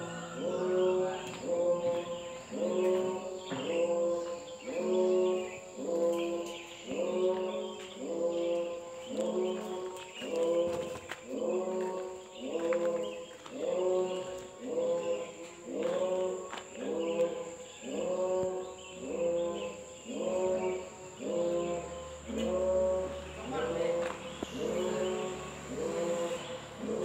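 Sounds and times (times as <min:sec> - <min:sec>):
voices chanting a short phrase: 0:00.0 - 0:27.0.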